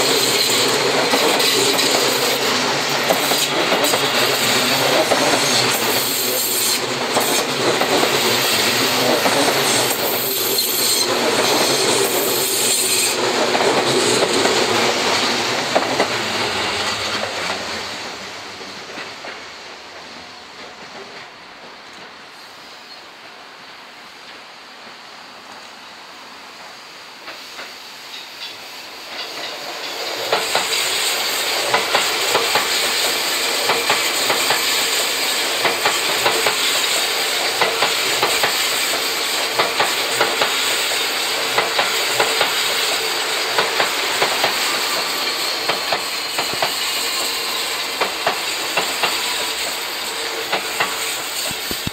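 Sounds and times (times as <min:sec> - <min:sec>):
train wheels clacking over rail joints: 0:00.0 - 0:22.2, 0:26.6 - 0:51.9.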